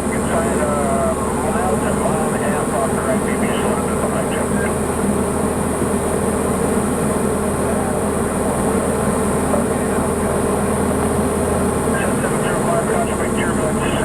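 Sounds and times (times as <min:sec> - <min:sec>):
aircraft piston engine and propeller drone: 0:00.0 - 0:14.0.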